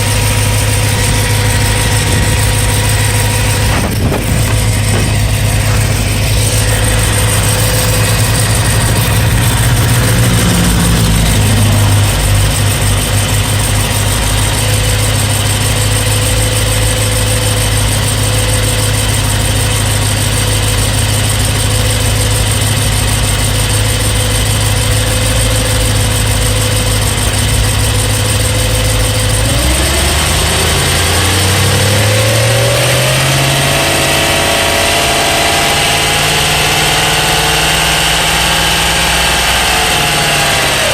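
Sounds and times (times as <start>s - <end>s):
car engine idling with ticking: 0.0s - 40.9s.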